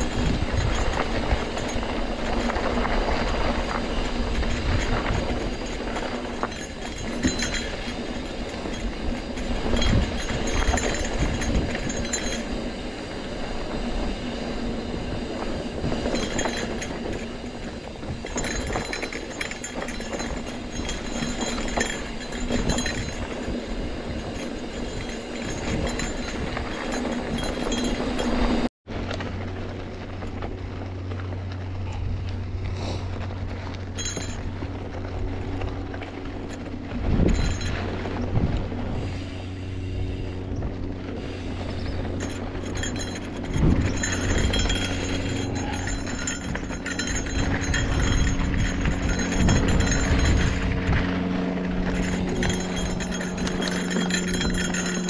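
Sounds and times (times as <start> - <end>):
bike knocking and rattling: 0.0 - 55.0
bike tyres rolling on dirt: 0.0 - 55.0
steady noise with low hum: 0.0 - 55.0.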